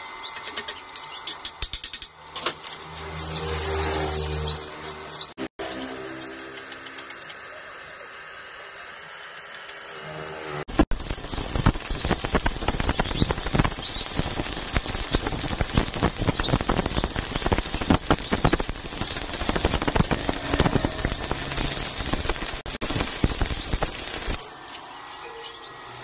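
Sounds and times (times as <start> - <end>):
welding arc crackling and sizzling: 0.0 - 26.0.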